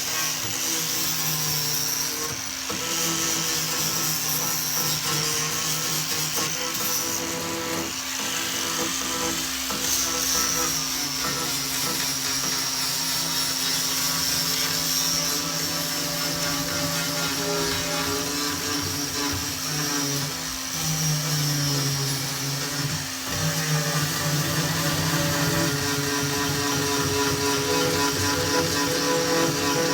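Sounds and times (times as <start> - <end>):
power tool whining: 0.0 - 29.9.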